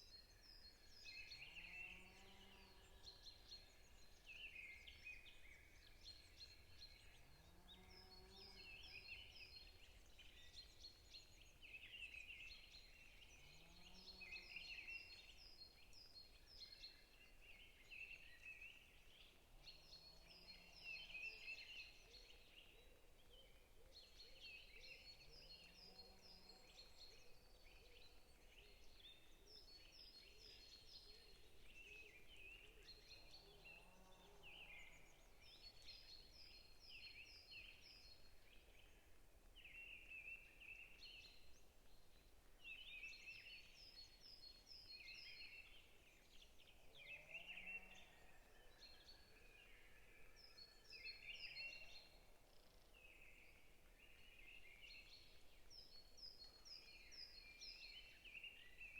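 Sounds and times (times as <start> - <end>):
songbirds chirping and singing: 0.2 - 58.9.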